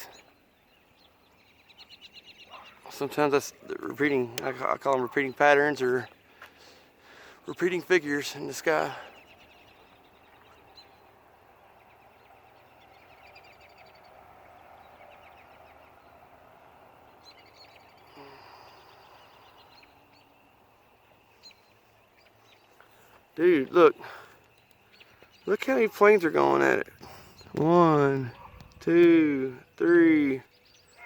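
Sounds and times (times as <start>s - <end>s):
distant birds chirping: 0.0s - 31.0s.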